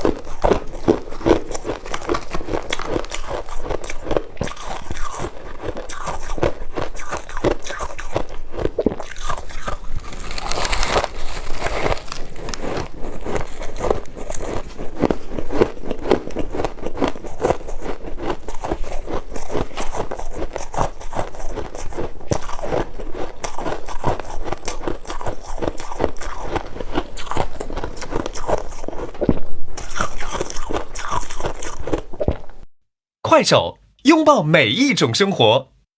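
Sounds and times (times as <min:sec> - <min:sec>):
chewing crunchy ice: 0:00.0 - 0:32.7.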